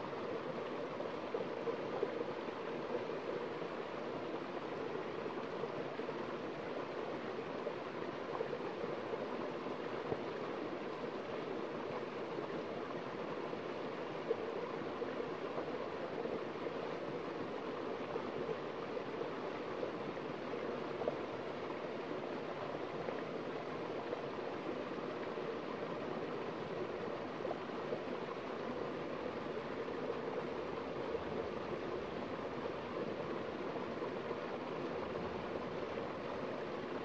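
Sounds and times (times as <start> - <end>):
stream rushing and splashing: 0.0 - 37.0.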